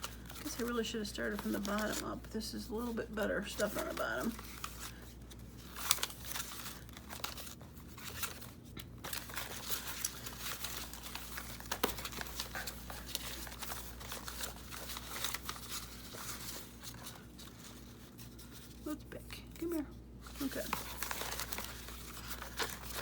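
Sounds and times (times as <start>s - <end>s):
paper rustling: 0.0s - 23.0s.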